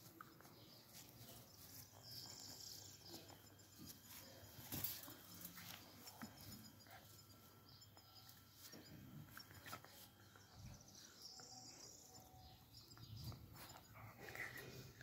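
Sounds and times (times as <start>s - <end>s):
faint high chirp: 0.1s - 15.0s.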